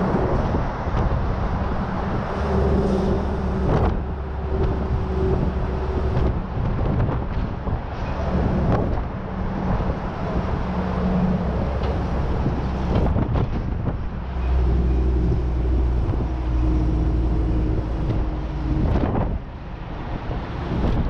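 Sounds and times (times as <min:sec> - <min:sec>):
road and wind rumble: 0:00.0 - 0:21.0
truck engine drone: 0:00.0 - 0:21.0.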